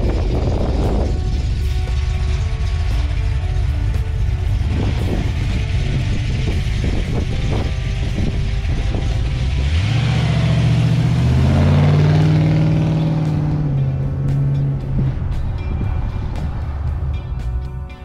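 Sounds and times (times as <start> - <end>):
engine idling and revving: 0.0 - 18.0.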